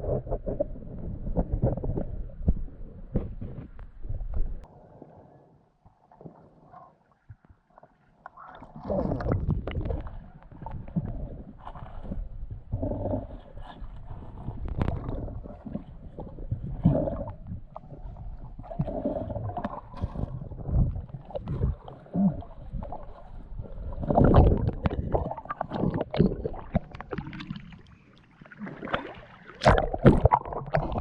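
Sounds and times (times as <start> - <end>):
water sloshing and gurgling: 0.0 - 5.2, 5.8 - 31.0.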